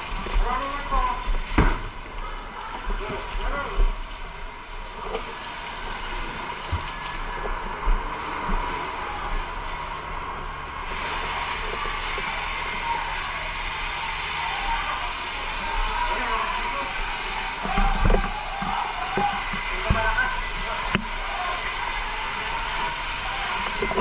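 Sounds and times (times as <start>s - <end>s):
fire hose spraying water: 0.0s - 24.0s.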